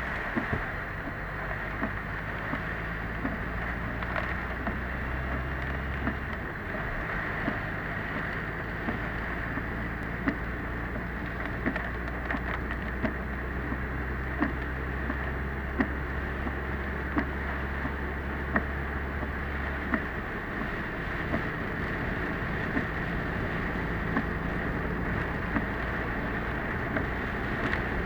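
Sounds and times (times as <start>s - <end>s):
car road and engine noise: 0.0s - 28.0s
hiss of rain and spray: 0.0s - 28.0s.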